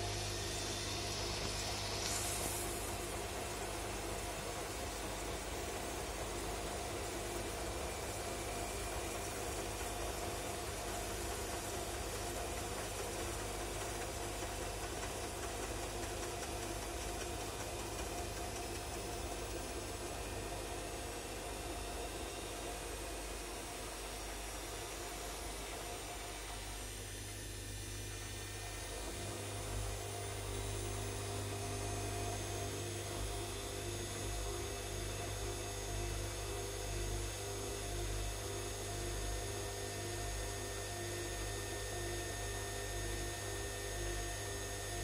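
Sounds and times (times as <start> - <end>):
washing machine drum humming: 0.0 - 26.8, 27.8 - 45.0.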